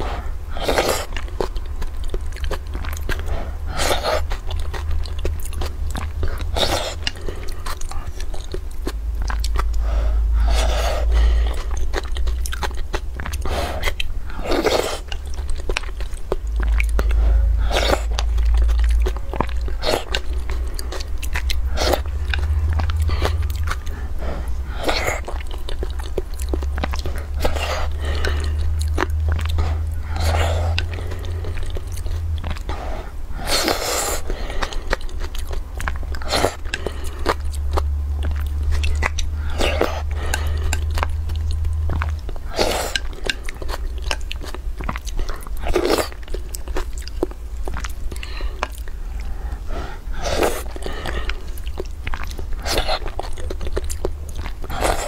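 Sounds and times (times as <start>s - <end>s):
chewing with mouth clicks: 0.0s - 55.0s
steady low hum: 0.0s - 55.0s.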